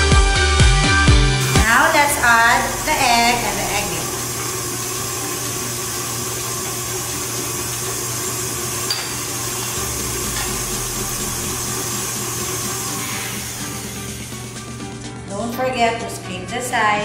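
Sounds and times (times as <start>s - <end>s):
stand mixer motor whirring: 1.4s - 15.2s.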